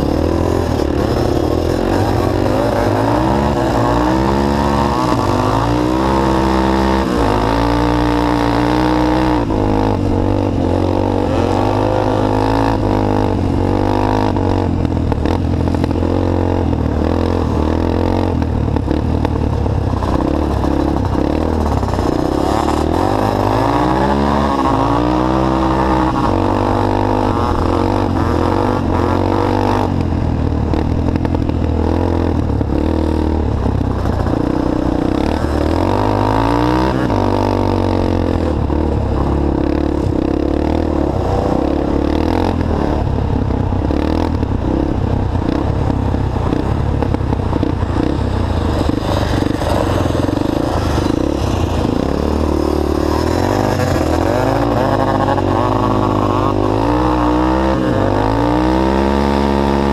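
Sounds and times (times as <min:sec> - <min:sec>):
three-wheeler engine revving: 0:00.0 - 0:59.9.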